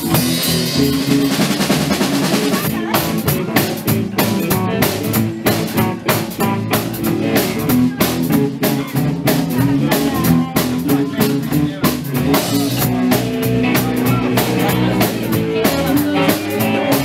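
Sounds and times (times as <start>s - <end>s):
drum kit beat: 0.0s - 17.0s
electric guitars: 0.0s - 17.0s.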